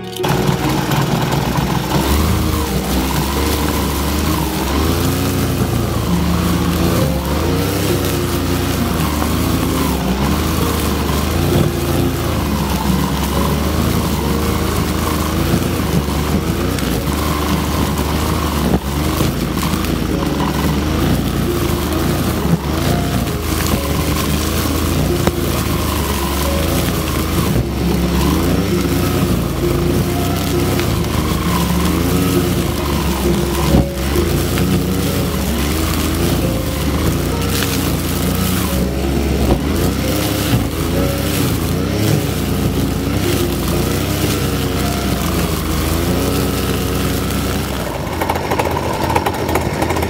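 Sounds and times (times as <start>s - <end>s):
brush cutter engine running: 0.0s - 50.0s
cutter slashing through grass: 0.0s - 50.0s.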